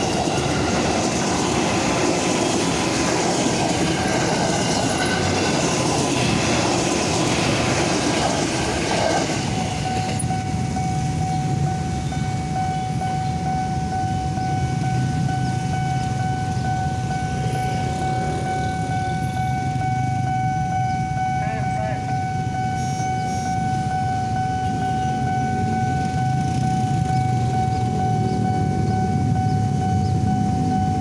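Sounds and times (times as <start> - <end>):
crossing signal warning tone: 0.0 - 31.0
electric train passing: 0.0 - 31.0.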